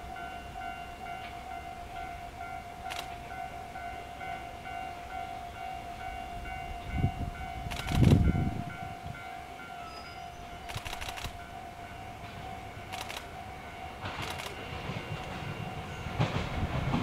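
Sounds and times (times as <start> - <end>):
train clattering: 0.0 - 17.0
train rumble: 0.0 - 17.0.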